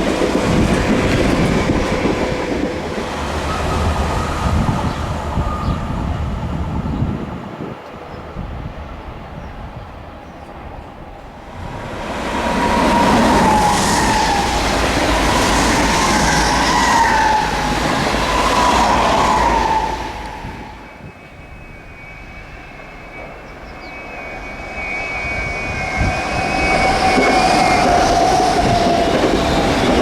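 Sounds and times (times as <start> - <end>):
approaching train whine: 0.0 - 30.0
passenger train passing: 0.0 - 30.0.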